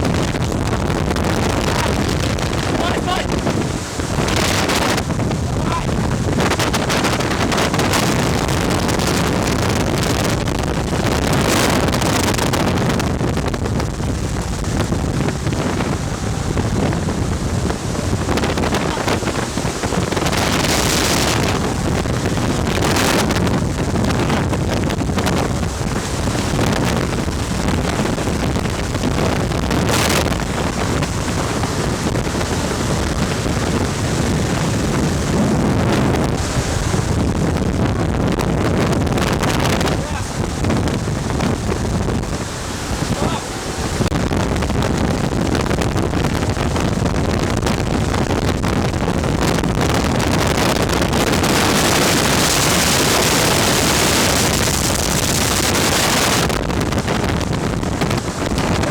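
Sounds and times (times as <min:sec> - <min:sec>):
ventilation fan air rush: 0:00.0 - 0:58.9
wind buffeting microphone: 0:00.0 - 0:58.9.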